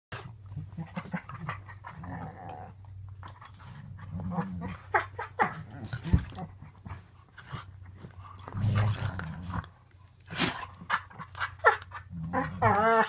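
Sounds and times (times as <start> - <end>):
dogs growling: 0.2 - 13.0.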